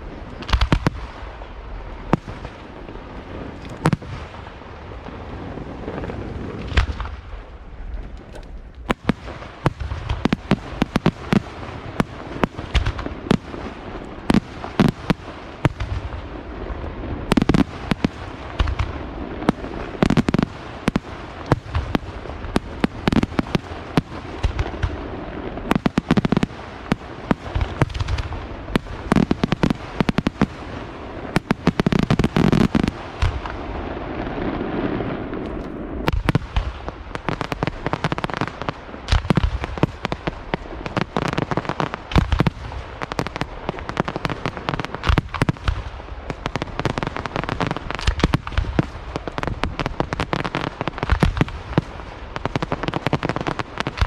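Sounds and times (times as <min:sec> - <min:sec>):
fireworks bangs: 0:00.0 - 0:54.0
fireworks rumble and crackle: 0:00.0 - 0:54.0.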